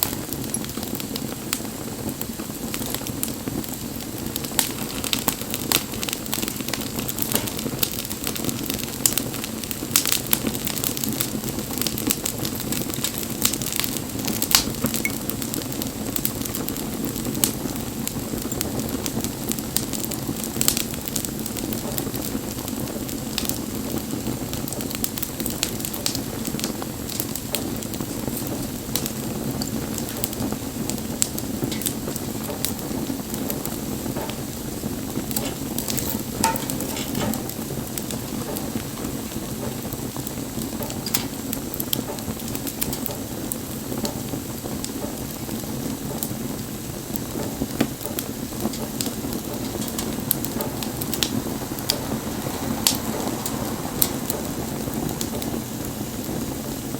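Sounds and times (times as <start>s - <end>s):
low rush of burning: 0.0s - 56.9s
wood bonfire crackling: 0.0s - 56.9s.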